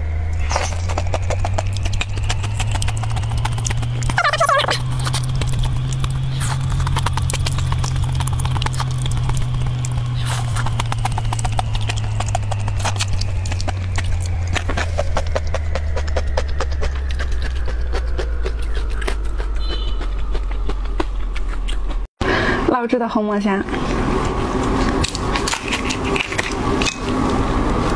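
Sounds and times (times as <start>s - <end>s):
low hum: 0.0s - 27.9s
shell peeling: 0.4s - 22.0s, 24.6s - 27.4s
wet eating and slurping: 0.4s - 22.0s, 23.8s - 27.5s.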